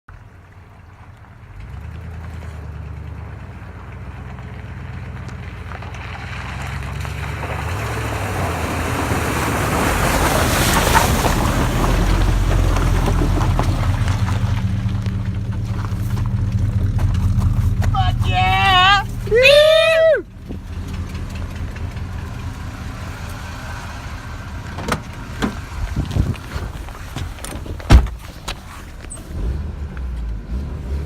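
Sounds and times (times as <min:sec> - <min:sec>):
tyre and road noise: 0:00.1 - 0:31.0
vehicle engine running: 0:00.1 - 0:31.0.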